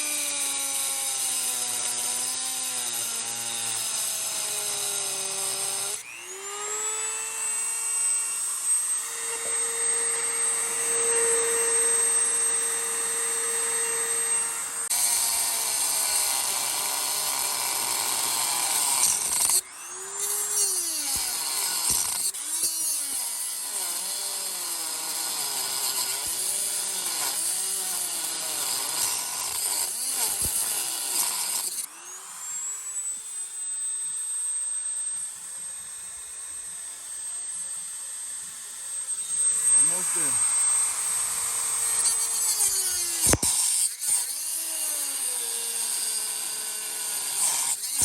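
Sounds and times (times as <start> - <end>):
power tool grinding steel: 0.0 - 48.0.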